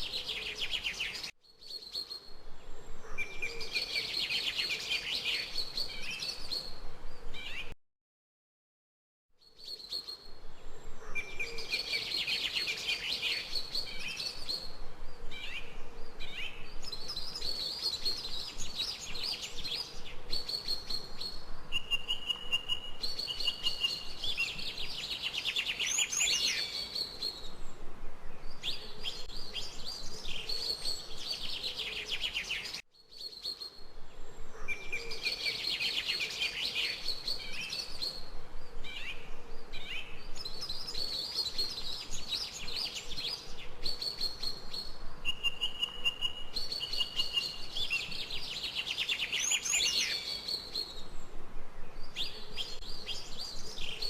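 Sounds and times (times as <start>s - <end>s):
faint background hiss: 9.4s - 54.0s.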